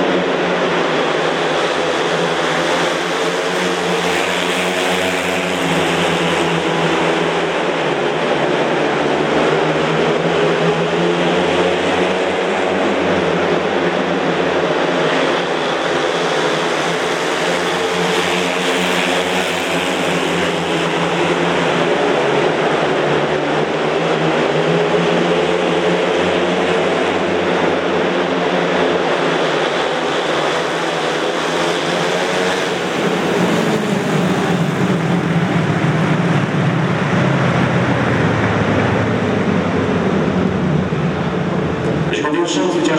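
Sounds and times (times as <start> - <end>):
motorcycles racing: 0.0 - 42.9.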